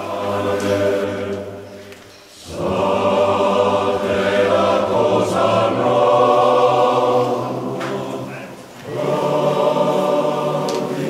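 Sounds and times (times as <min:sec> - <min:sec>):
choir singing sustained notes: 0:00.0 - 0:11.0.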